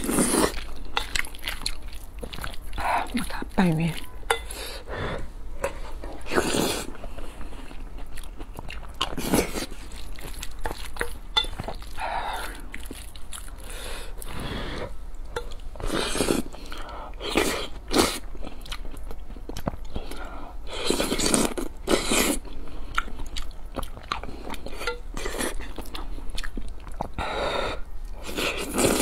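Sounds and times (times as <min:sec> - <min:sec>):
chewing and slurping: 0:00.0 - 0:04.9, 0:05.6 - 0:27.2, 0:28.2 - 0:29.0.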